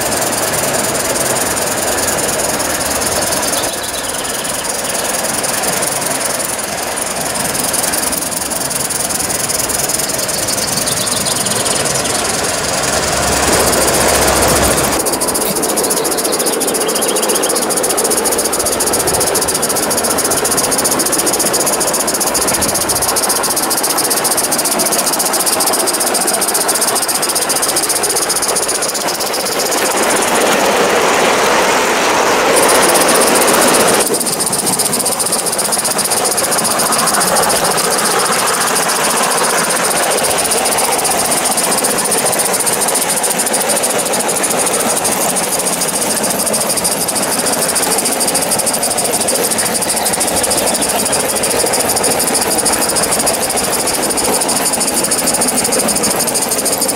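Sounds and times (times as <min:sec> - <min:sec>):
model train running on rails: 0:00.0 - 0:56.9
steam hissing: 0:00.0 - 0:56.9.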